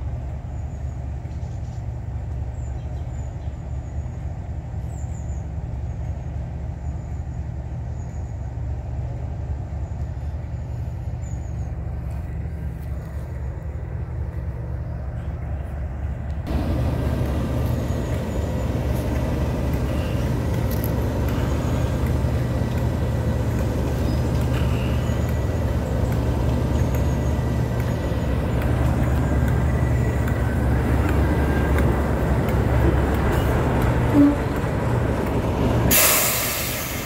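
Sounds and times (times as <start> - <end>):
diesel locomotive engine running: 0.0 - 37.0.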